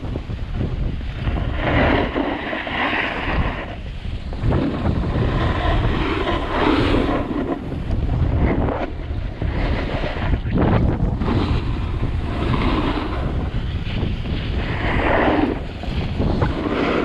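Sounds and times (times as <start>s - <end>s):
wind buffeting microphone: 0.0s - 17.0s
edges scraping over snow: 1.1s - 17.0s.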